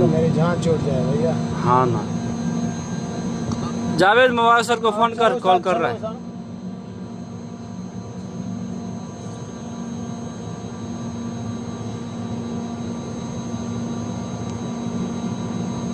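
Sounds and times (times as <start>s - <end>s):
chiller fans droning: 0.0s - 15.9s
high whine: 0.0s - 15.9s.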